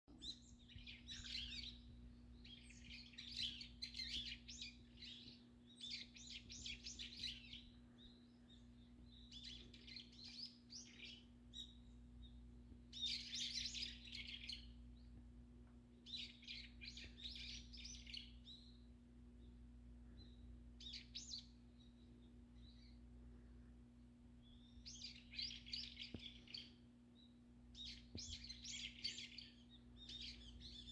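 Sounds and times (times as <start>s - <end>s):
faint low hum: 0.1s - 30.9s
songbirds twittering: 0.1s - 30.9s.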